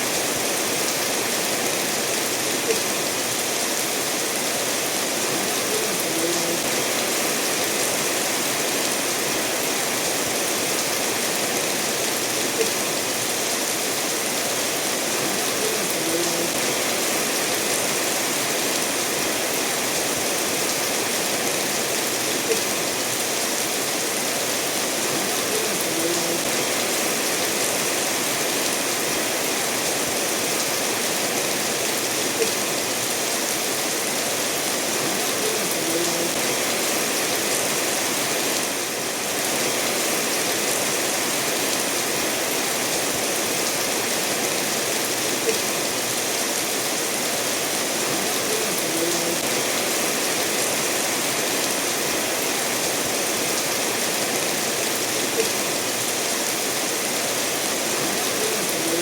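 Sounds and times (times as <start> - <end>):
rain falling: 0.0 - 59.0
stream running over stones: 0.0 - 59.0.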